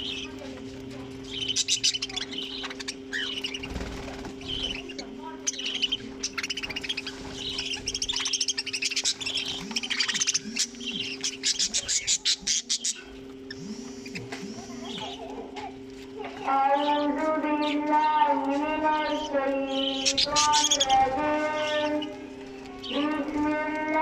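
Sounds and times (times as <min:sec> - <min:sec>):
budgerigars chattering and chirping: 0:00.0 - 0:15.5, 0:16.4 - 0:24.0
steady low hum: 0:00.0 - 0:24.0.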